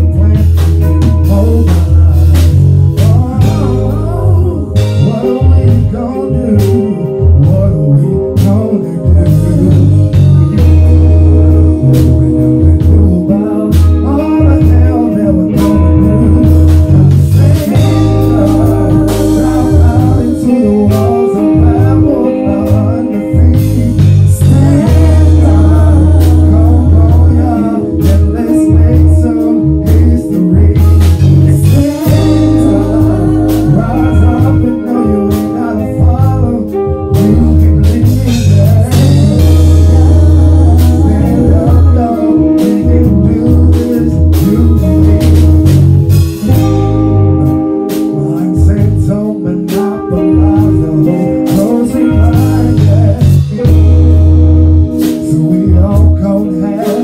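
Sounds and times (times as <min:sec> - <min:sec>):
people singing into microphones: 0:00.0 - 0:46.9, 0:48.2 - 0:57.0
soul backing track with heavy bass: 0:00.0 - 0:57.0.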